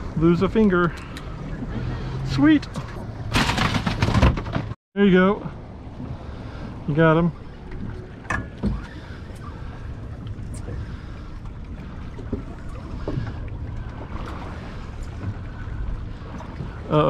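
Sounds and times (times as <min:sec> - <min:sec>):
water washing around boat: 0:00.0 - 0:17.0.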